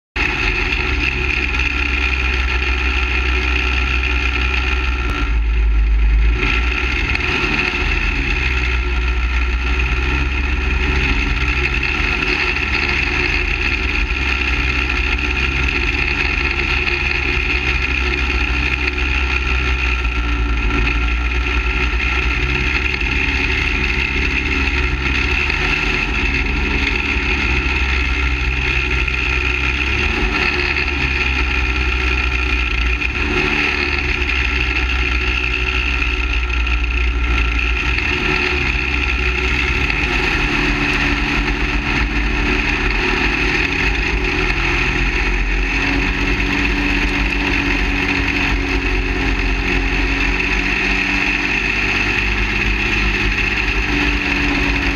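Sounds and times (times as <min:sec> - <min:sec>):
small go-kart engine running: 0:00.2 - 0:54.9.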